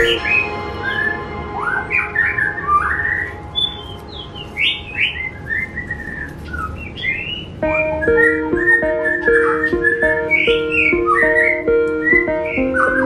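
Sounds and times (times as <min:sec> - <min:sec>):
birds chirping and whistling: 0:00.0 - 0:13.0
faint background music: 0:00.0 - 0:13.0.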